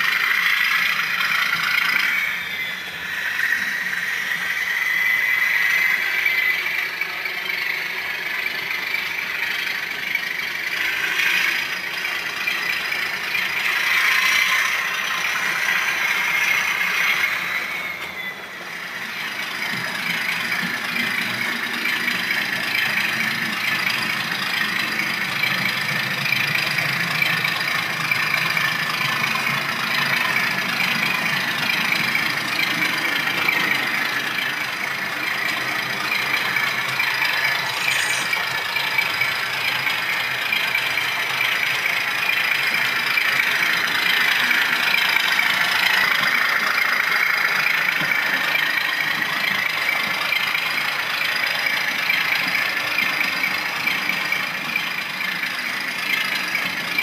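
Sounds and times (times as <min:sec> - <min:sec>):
diesel engine through small speaker: 0:00.0 - 0:57.0.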